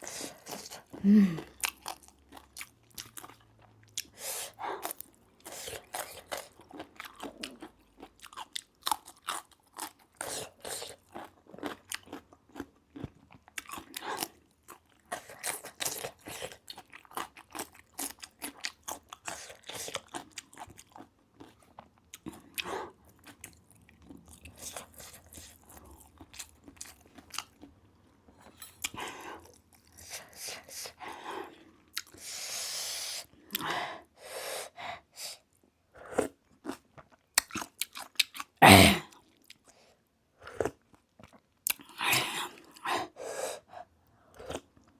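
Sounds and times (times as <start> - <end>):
person chewing and crunching food: 0.0 - 33.9, 35.0 - 44.9.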